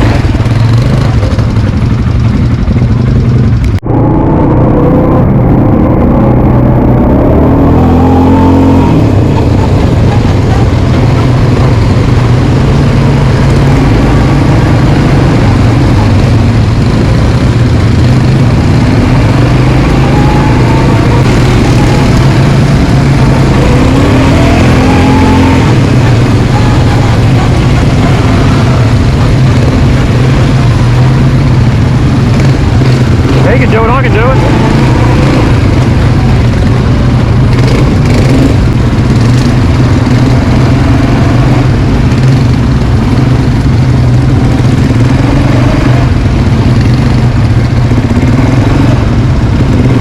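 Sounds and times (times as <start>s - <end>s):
quad bike engine revving: 0.0s - 50.0s.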